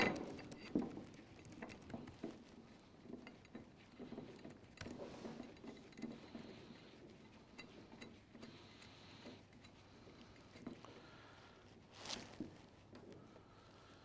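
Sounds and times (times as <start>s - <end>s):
faint metal clicks: 0.0s - 13.3s.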